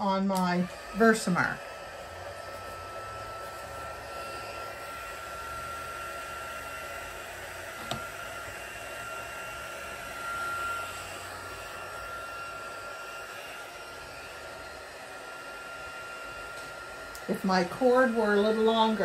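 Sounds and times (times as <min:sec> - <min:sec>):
heat gun blowing with whine: 0:00.0 - 0:19.0.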